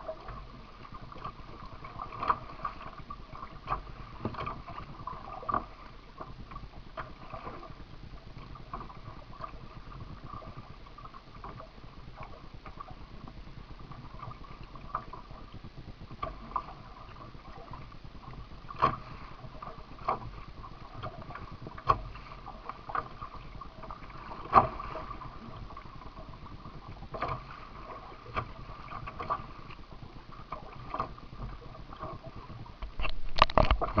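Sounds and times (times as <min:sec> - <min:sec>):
paddle splashes: 0:00.0 - 0:34.0.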